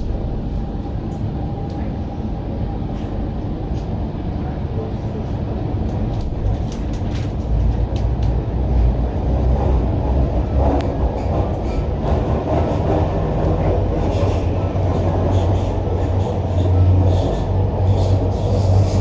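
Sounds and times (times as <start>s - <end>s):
metro wheels rumbling on rail: 0.0s - 19.0s.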